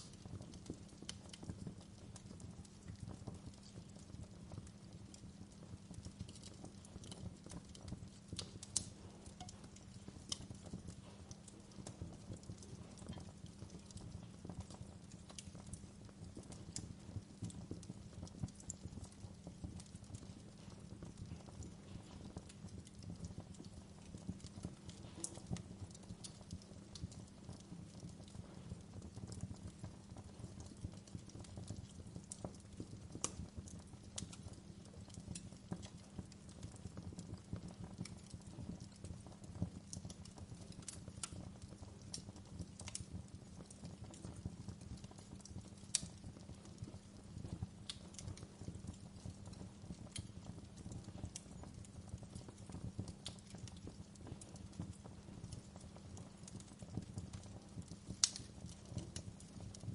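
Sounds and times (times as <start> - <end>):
fire pops and snaps: 0.0 - 59.9
wood fire crackling: 0.0 - 59.9.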